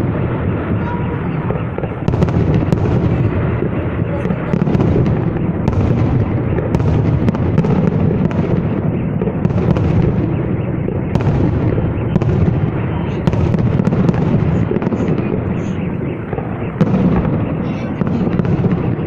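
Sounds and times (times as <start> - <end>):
fireworks rumble: 0.0 - 19.0
sharp firework cracks: 0.0 - 19.0.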